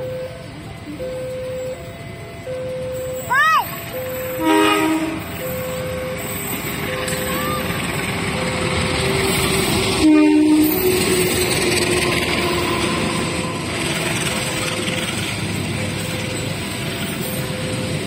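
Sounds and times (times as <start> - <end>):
train brakes squealing: 0.0 - 18.0
train wheels rumbling on rail joints: 0.0 - 18.0.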